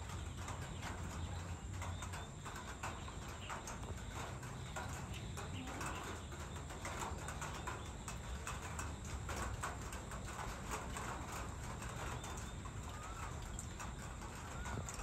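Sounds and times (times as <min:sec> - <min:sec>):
birds chirping: 0:00.0 - 0:09.5, 0:10.2 - 0:15.0.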